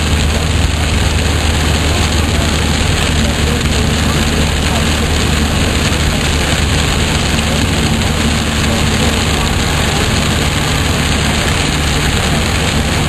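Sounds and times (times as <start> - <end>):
car engine and road hum: 0.0 - 13.0
rain hissing on car: 0.0 - 13.0
tyres on wet road: 0.0 - 13.0.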